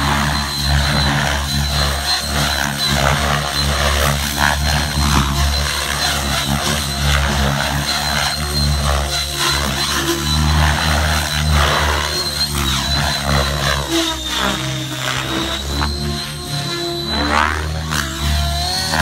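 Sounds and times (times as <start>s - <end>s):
helicopter rotor blades beating: 0.0s - 19.0s
high motor whine: 0.0s - 19.0s.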